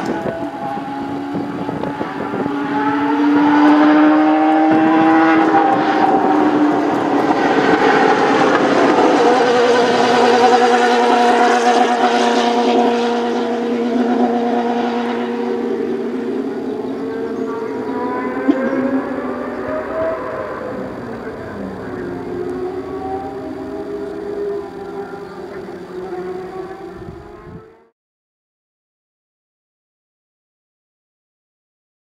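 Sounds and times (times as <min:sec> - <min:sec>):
racing car engine running hard: 0:00.0 - 0:27.9.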